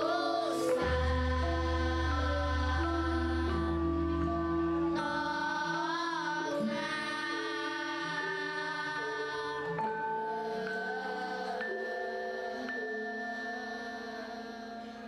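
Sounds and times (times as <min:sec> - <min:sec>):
girls choir singing: 0:00.0 - 0:15.0.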